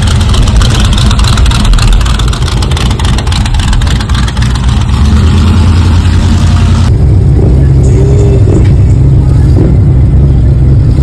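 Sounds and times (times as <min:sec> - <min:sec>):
loud engine running: 0:00.0 - 0:11.0.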